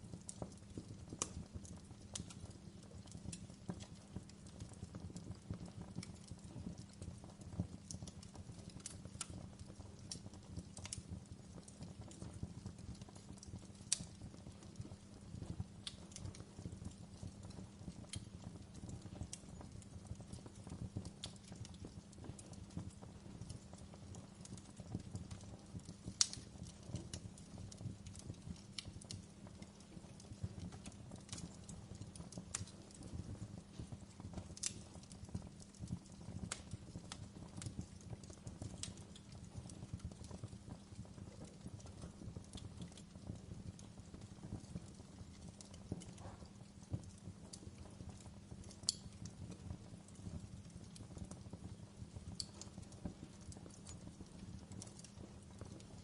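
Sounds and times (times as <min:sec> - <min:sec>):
fire flames rumbling: 0:00.0 - 0:56.0
logs crackling and popping: 0:00.0 - 0:56.0.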